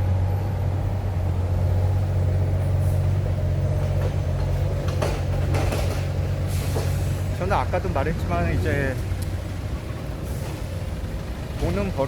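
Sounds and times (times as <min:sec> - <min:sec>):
heavy vehicle engine running: 0:00.0 - 0:12.0
road traffic: 0:00.0 - 0:12.0.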